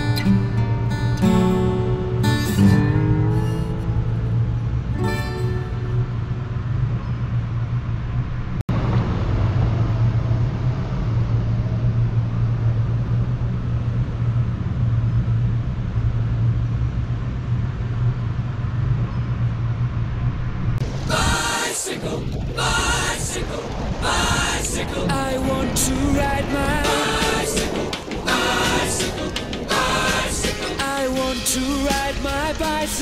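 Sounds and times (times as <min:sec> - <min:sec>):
outdoor rumble and hiss: 0:00.0 - 0:33.0.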